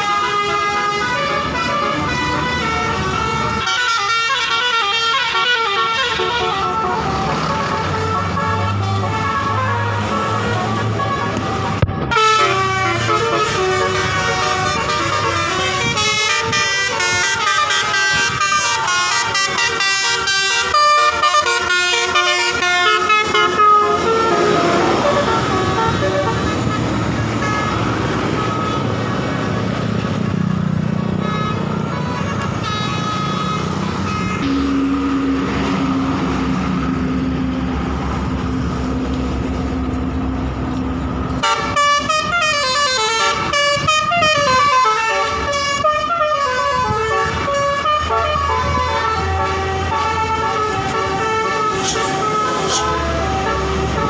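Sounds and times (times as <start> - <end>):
bus horn playing melodies: 0.0 - 37.5, 41.3 - 54.0
road and engine noise: 0.0 - 54.0.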